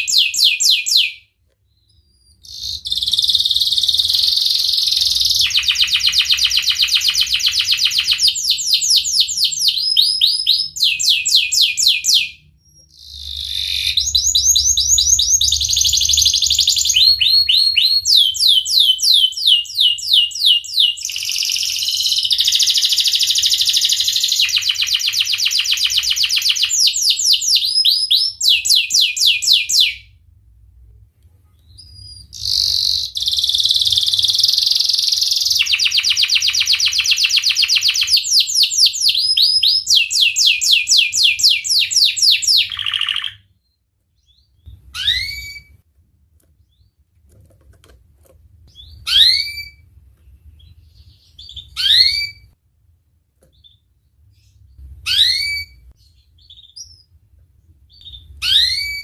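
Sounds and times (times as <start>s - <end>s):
canary singing: 0.0s - 30.1s, 31.6s - 45.8s, 48.7s - 52.6s, 53.5s - 57.2s, 57.8s - 59.0s.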